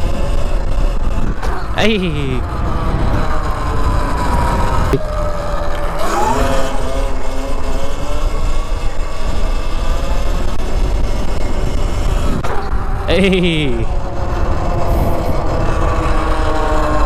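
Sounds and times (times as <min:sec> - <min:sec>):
low wind rumble: 0:00.0 - 0:13.1, 0:13.8 - 0:17.0
motorcycle engine revving: 0:00.0 - 0:17.0.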